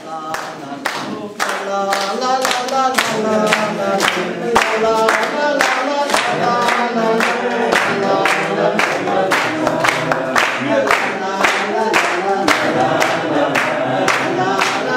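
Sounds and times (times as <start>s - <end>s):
group of people singing: 0.0s - 14.9s
hand claps: 0.1s - 14.9s.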